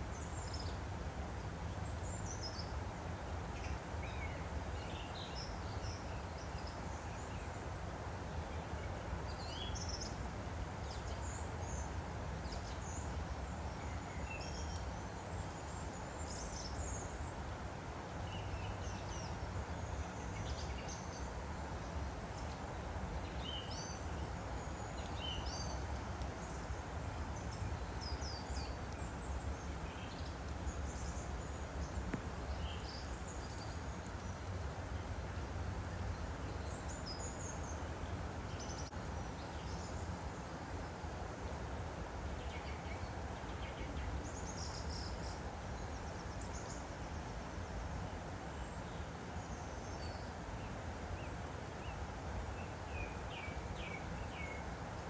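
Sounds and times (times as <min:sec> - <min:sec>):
woodland stream rushing: 0:00.0 - 0:55.0.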